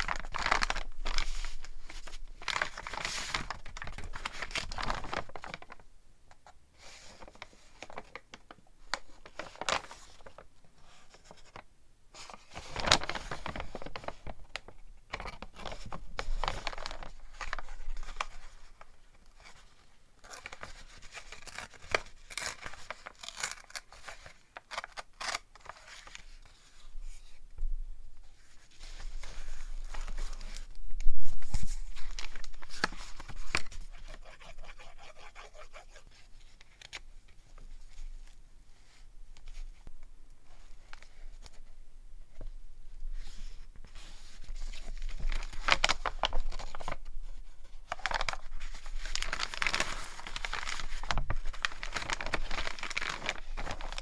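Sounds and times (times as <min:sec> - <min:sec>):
paper rustling and crinkling: 0:00.0 - 0:05.8, 0:06.4 - 0:27.4, 0:28.2 - 0:54.0.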